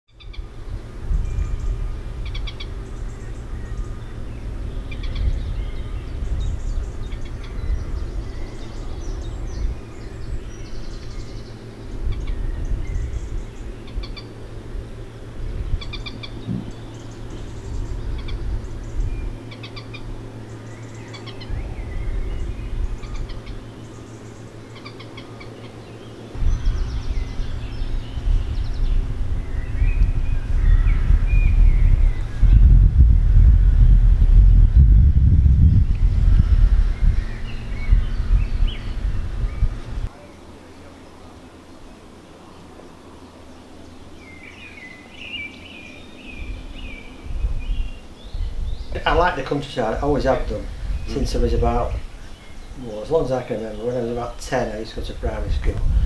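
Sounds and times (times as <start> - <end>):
small birds chirping: 0.1 - 33.0, 35.2 - 56.0
wind on microphone: 0.1 - 40.1, 44.6 - 56.0.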